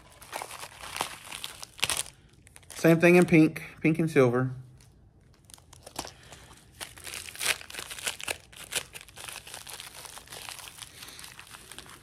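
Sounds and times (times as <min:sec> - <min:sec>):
plastic packaging crinkling: 0:00.0 - 0:03.4, 0:04.8 - 0:12.0.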